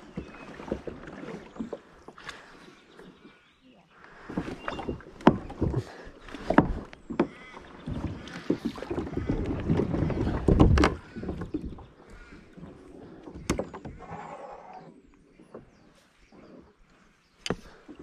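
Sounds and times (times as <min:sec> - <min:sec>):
paddle splashing in water: 0:00.0 - 0:03.4, 0:04.0 - 0:18.0.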